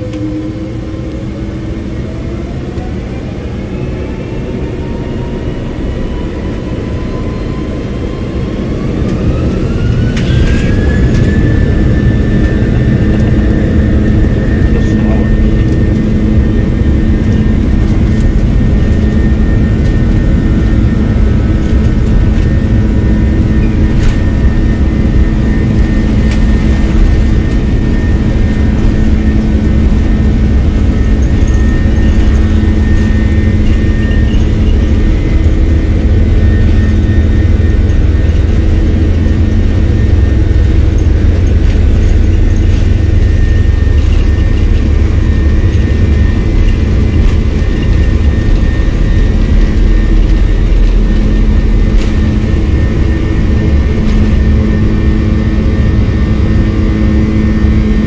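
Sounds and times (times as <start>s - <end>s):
constant hum tones: 0.0s - 58.0s
deep rumble: 0.0s - 58.0s
jet engine drone in cabin: 0.0s - 58.0s.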